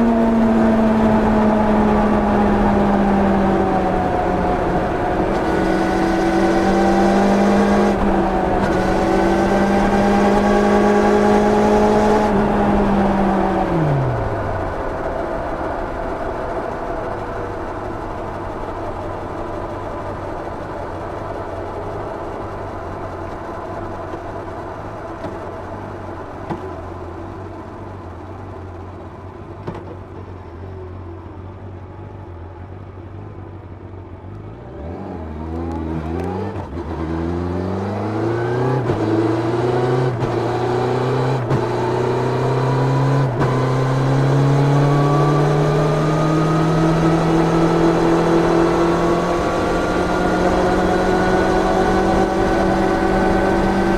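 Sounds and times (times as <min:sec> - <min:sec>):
motorcycle engine revving: 0:00.0 - 0:29.8, 0:34.6 - 0:53.9.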